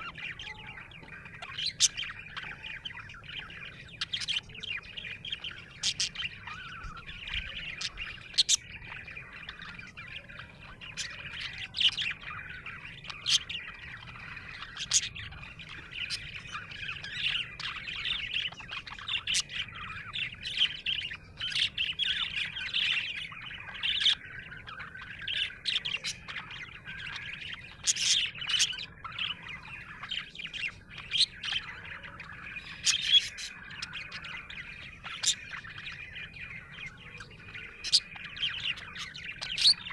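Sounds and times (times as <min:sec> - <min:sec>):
budgerigar chirping and warbling: 0:00.0 - 0:39.9.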